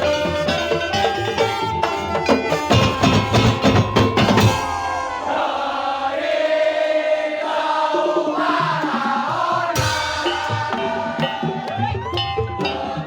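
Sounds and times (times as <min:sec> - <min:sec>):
rapid drum and gong strikes: 0:00.0 - 0:06.1, 0:07.9 - 0:13.0
percussion ensemble playing: 0:00.0 - 0:13.0.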